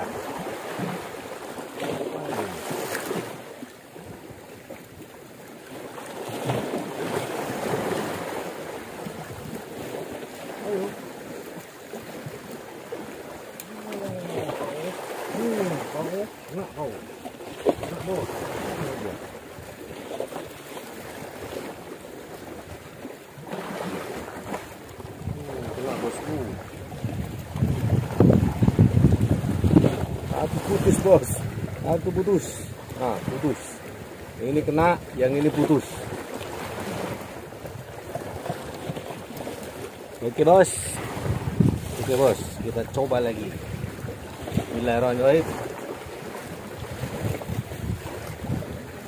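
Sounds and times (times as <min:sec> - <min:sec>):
sea waves washing against rocks: 0:00.0 - 0:49.0.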